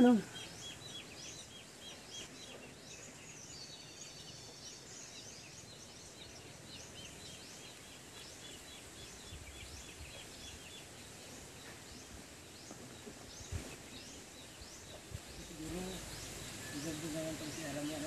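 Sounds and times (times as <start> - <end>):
faint birds chirping: 0.0 - 18.0
soft outdoor background noise: 0.0 - 18.0.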